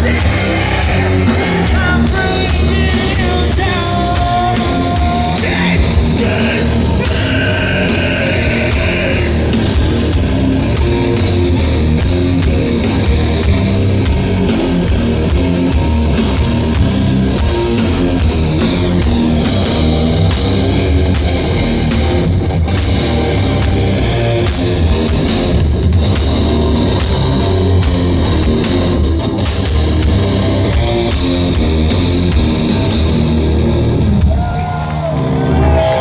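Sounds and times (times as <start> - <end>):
live heavy rock band: 0.0 - 36.0.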